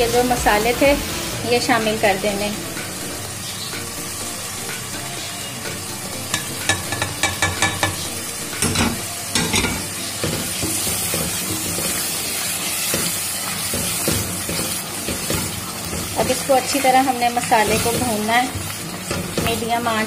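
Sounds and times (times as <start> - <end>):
paste sizzling in oil: 0.0 - 20.0.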